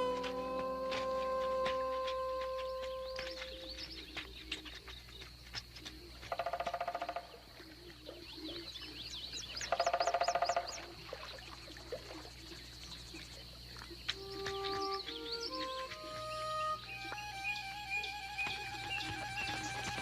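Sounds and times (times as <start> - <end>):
bird chirps: 0.0 - 11.5, 12.6 - 20.0.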